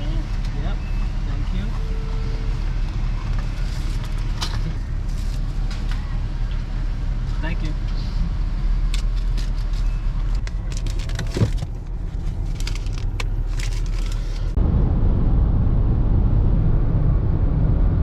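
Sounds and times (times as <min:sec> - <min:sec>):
car engine rumble: 0:00.0 - 0:18.0
road noise: 0:00.0 - 0:18.0.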